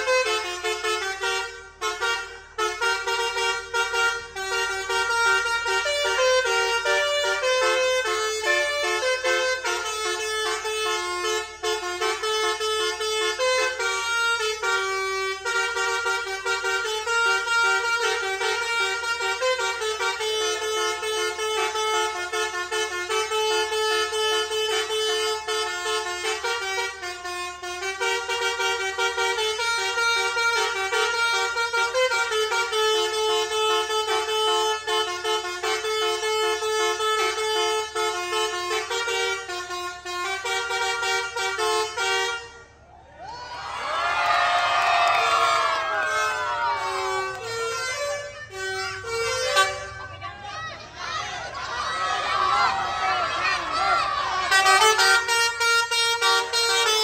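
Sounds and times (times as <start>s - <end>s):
multi-tone bus horn tune: 0.0s - 43.0s, 44.2s - 57.0s.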